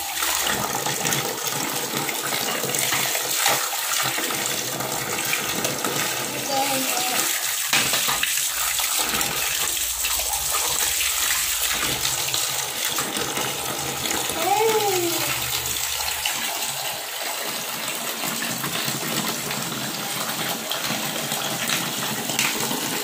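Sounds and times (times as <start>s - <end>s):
water pouring and splashing: 0.0s - 23.0s.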